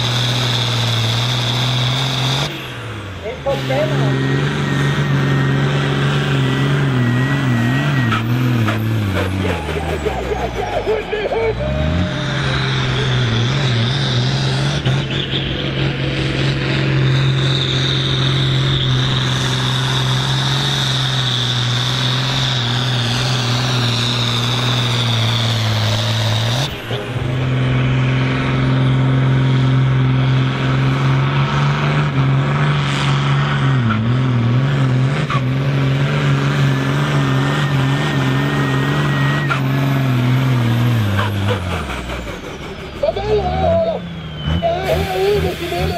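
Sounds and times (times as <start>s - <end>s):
high engine whine: 0.0s - 45.9s
tractor diesel engine at full load: 0.0s - 45.9s.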